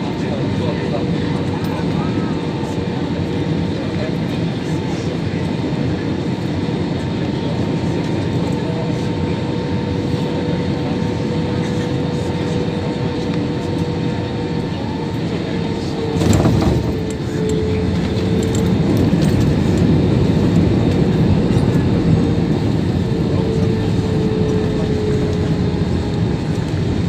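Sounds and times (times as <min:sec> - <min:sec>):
airliner cabin jet rumble: 0:00.0 - 0:27.0.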